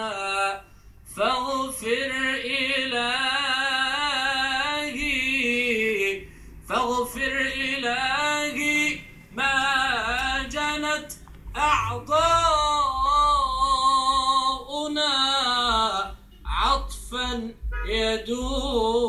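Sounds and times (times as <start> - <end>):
man chanting religious verse: 0.0 - 19.0.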